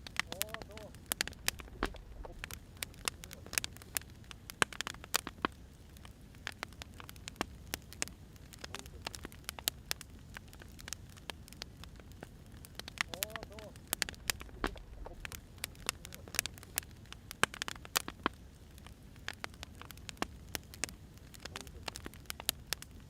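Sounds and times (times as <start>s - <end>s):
faint low rumble: 0.0s - 23.0s
wood fire crackling and popping: 0.0s - 23.0s.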